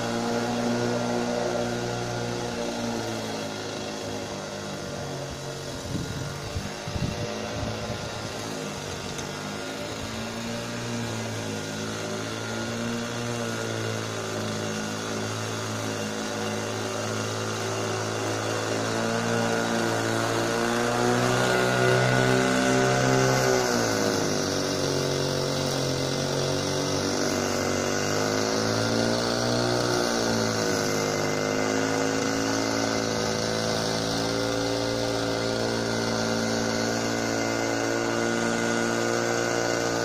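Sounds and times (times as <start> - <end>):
lawn mower cutting grass: 0.0 - 40.0.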